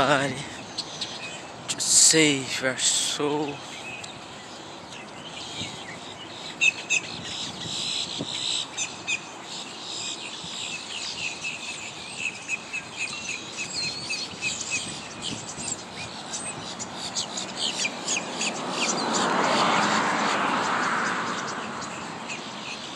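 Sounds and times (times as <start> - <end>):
birds chirping and twittering: 0.0 - 22.9.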